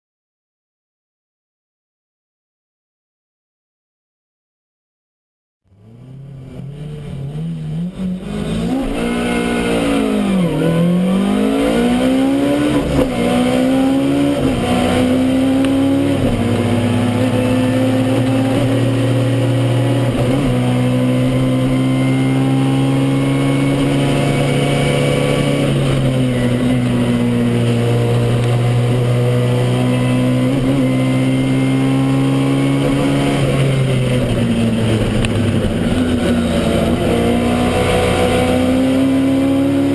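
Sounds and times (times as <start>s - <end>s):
car engine revving: 5.7s - 39.9s.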